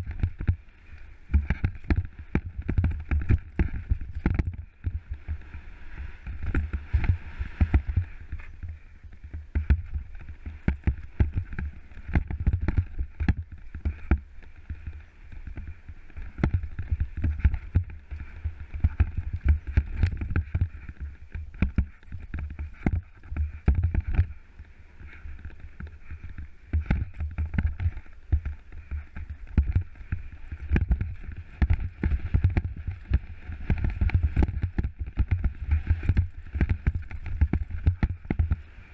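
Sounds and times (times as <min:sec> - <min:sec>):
bike knocking and rattling on rocks: 0:00.0 - 0:38.9
wind and tyres rumbling: 0:00.0 - 0:38.9.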